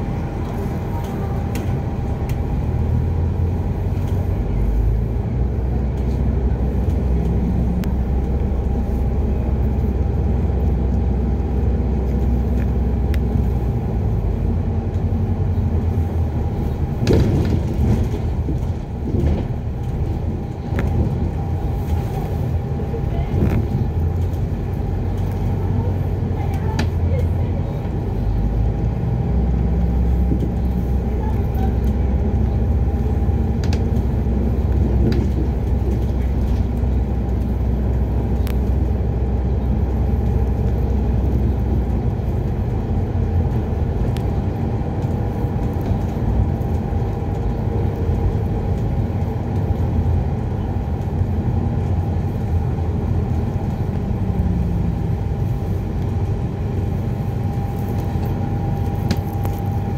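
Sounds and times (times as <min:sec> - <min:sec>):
bus drivetrain and road rumble: 0:00.0 - 0:59.9.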